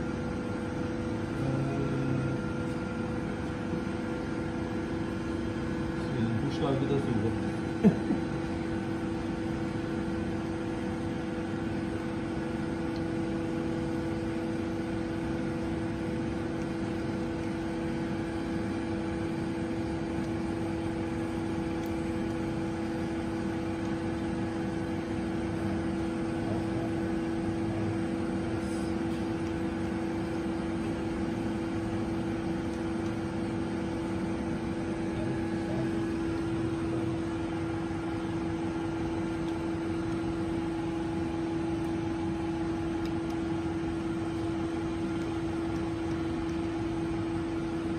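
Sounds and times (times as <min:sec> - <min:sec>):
machining centre humming: 0:00.0 - 0:47.9.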